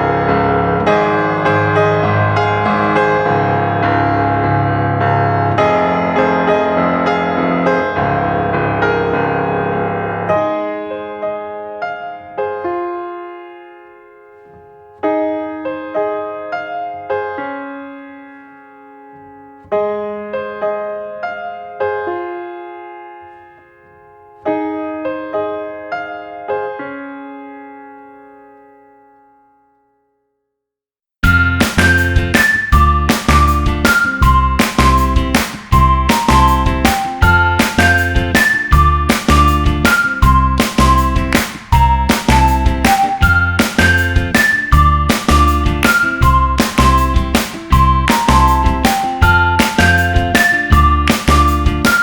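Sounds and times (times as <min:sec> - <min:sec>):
piano music: 0:00.0 - 0:29.5, 0:31.2 - 0:52.0.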